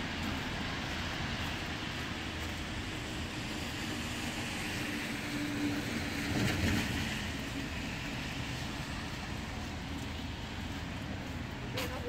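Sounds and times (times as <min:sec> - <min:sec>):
rain and tyres hissing: 0:00.0 - 0:12.0
vehicle passing on wet road: 0:00.0 - 0:12.0.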